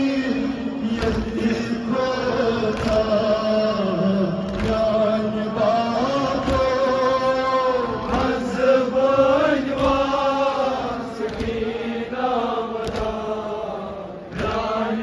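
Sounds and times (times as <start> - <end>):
man chanting over loudspeaker: 0.0 - 15.0.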